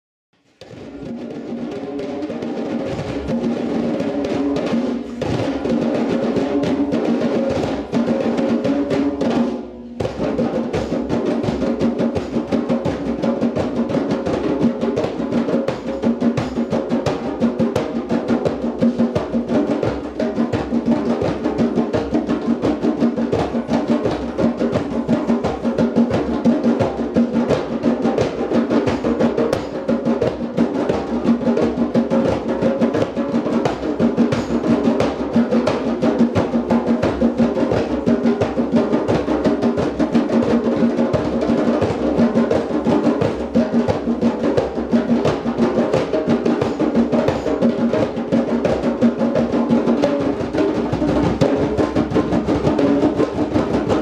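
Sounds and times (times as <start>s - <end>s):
djembe ensemble drumming: 0.5s - 54.0s.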